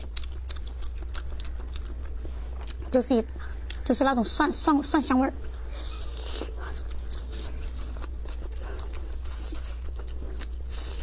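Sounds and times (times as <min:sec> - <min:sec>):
person chewing sausage: 0:00.0 - 0:03.9, 0:05.4 - 0:11.0
steady low hum: 0:00.0 - 0:11.0.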